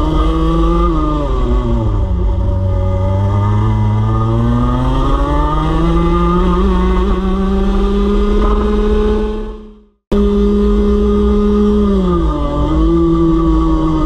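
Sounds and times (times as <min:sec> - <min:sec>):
kart engine: 0:00.0 - 0:14.0.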